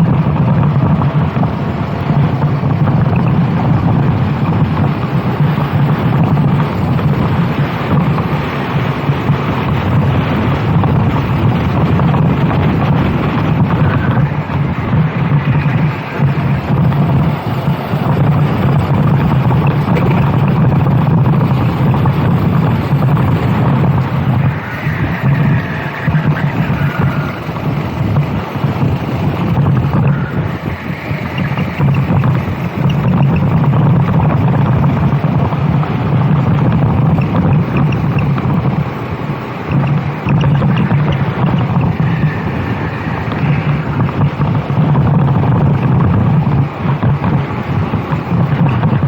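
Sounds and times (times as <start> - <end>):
kart engine running: 0.0 - 49.0
wind buffeting microphone: 0.0 - 49.0.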